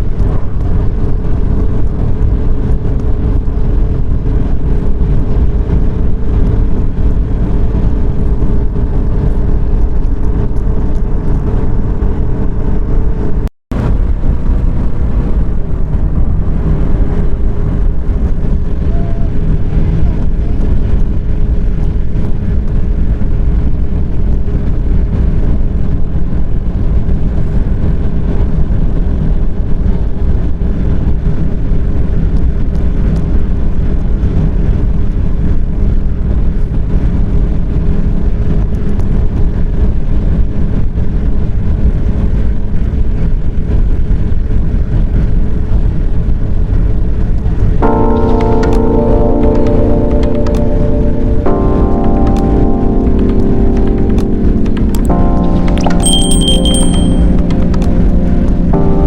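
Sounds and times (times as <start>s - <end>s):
vehicle engine rumble: 0.0s - 49.5s.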